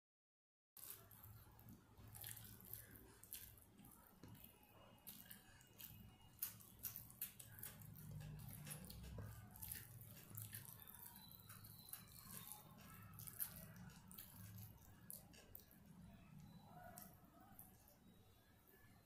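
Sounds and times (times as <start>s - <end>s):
wet clicks of eating by hand: 2.2s - 17.8s.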